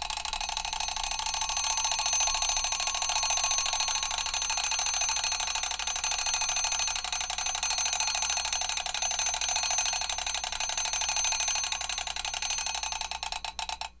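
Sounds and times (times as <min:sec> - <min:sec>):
alarm clock bell ringing: 0:00.4 - 0:13.3.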